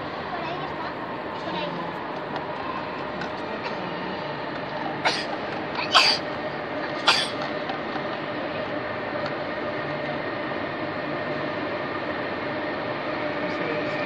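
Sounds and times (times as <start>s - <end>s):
station hall hum and hiss: 0.0s - 14.0s.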